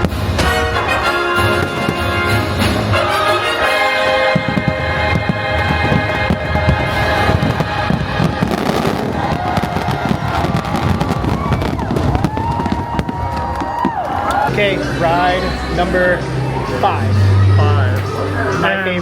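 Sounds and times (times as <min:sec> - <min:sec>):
orchestral music: 0:00.0 - 0:11.6, 0:13.0 - 0:19.0
fireworks bangs and crackles: 0:00.0 - 0:18.5
fireworks whistling: 0:00.0 - 0:18.7.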